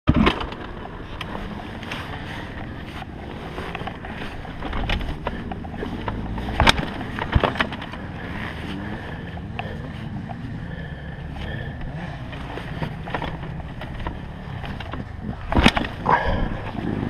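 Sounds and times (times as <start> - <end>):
bike knocking and rattling: 0.1 - 17.0
motocross bike engine running: 0.1 - 17.0.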